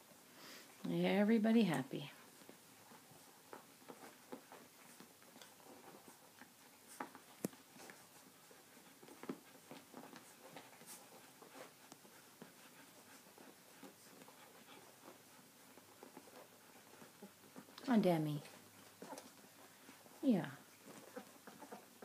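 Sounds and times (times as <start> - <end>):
puppies nursing soft clicks: 0.0 - 22.0.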